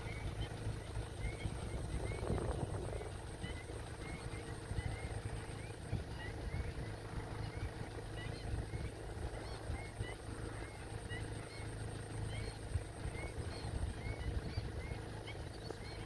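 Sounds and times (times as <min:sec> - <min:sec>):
short chirping bird calls: 0:00.0 - 0:16.0
steady low rumble: 0:00.0 - 0:16.0.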